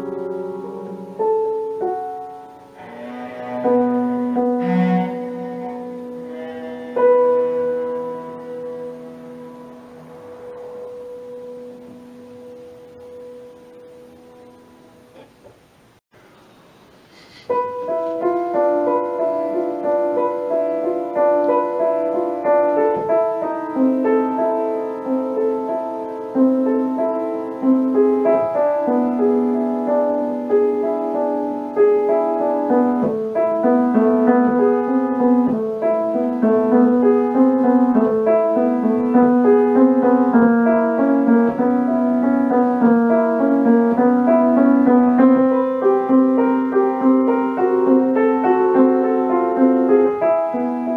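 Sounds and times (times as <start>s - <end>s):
cello and piano classical music: 0.0s - 10.0s, 17.6s - 50.9s.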